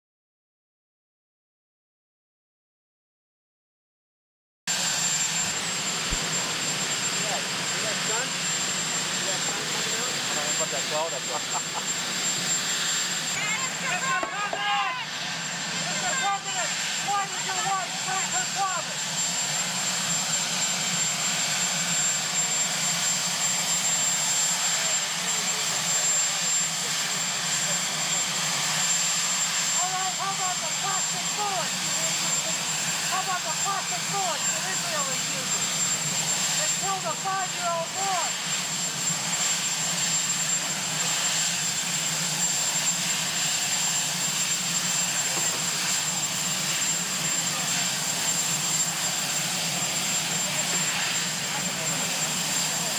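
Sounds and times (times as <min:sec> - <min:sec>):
helicopter turbine engines running: 0:04.7 - 0:52.9
high turbine whine: 0:04.7 - 0:52.9.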